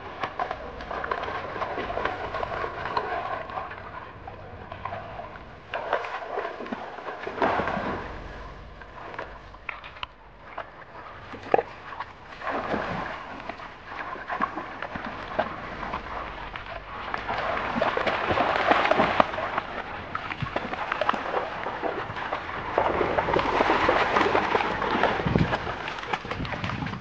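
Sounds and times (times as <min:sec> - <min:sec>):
dogs splashing through stream: 0:00.0 - 0:27.0.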